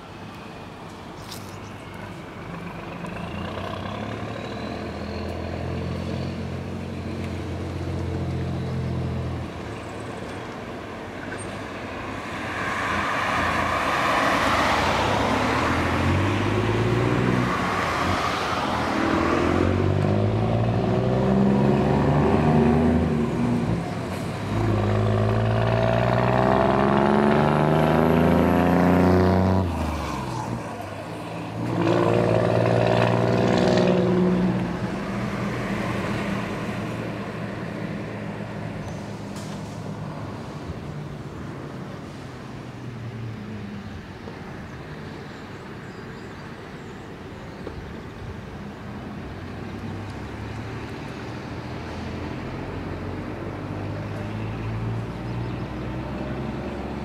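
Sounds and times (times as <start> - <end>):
truck diesel engine accelerating: 1.8 - 10.4, 11.9 - 42.2, 49.3 - 57.0.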